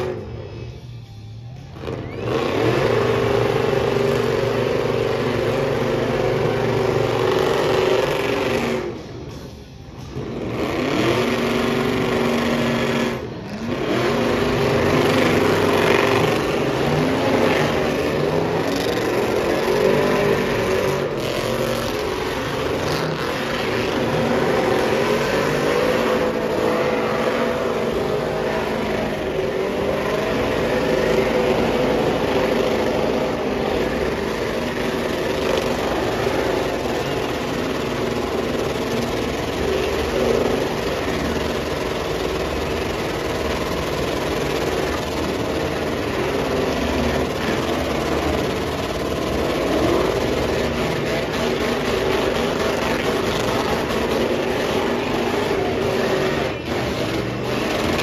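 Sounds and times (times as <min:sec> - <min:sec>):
truck engines revving high: 0:00.0 - 0:58.0.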